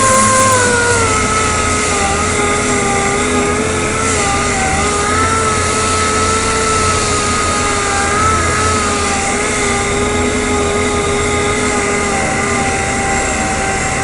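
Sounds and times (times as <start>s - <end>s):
sander whining: 0.0s - 14.0s.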